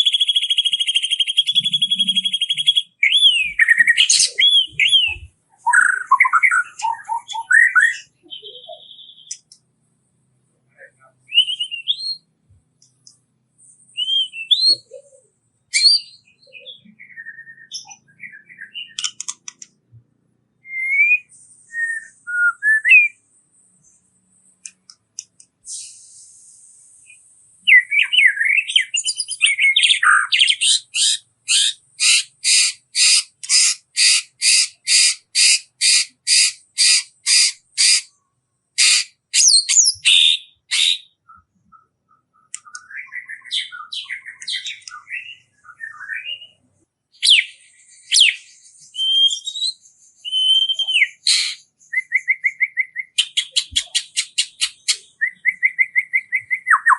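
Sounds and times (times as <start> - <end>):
songbird whistles and chirps: 0.0 - 9.7, 10.7 - 38.2, 38.8 - 56.9.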